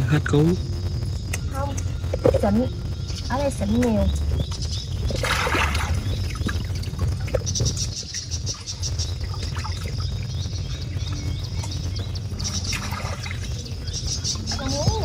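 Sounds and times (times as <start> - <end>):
rapid high-pitched chirping: 0.0 - 15.0
steady low rumble: 0.0 - 15.0.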